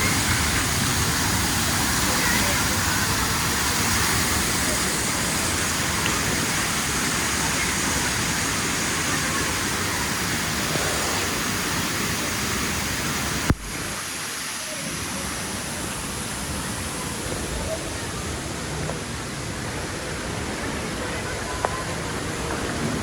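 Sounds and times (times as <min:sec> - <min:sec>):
faint voices: 0:00.0 - 0:23.0
water rushing and falling: 0:00.0 - 0:23.0.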